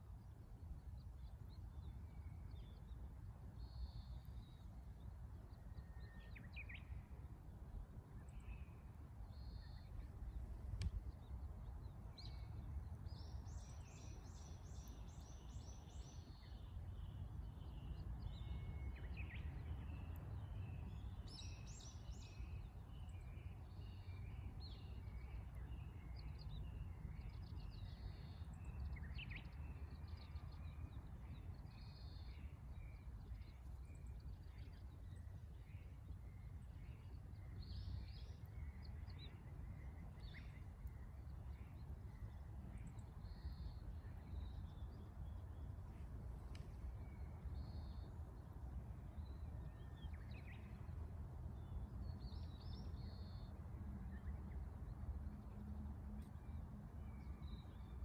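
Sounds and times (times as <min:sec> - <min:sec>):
small birds singing and calling: 0:00.9 - 0:07.1, 0:08.2 - 0:58.0.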